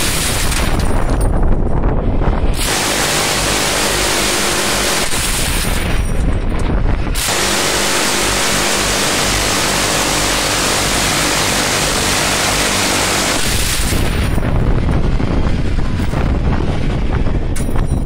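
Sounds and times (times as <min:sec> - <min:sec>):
minigun firing continuous buzz: 0:00.0 - 0:18.0.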